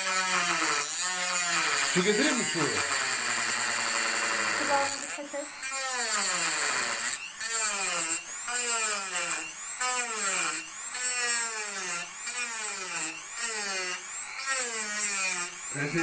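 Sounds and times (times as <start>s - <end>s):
cutting tool grinding into metal can: 0.0s - 16.0s.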